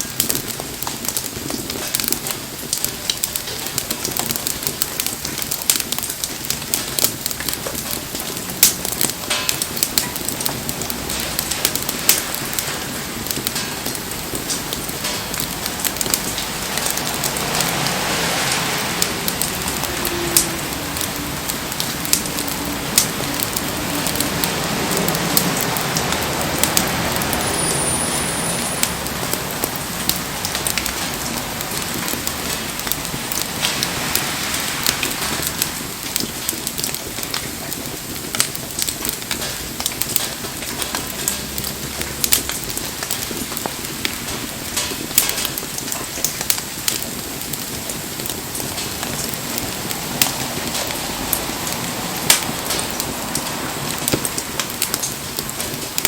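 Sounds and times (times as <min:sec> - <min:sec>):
rain falling: 0:00.0 - 0:56.0
wood fire crackling and popping: 0:00.0 - 0:56.0.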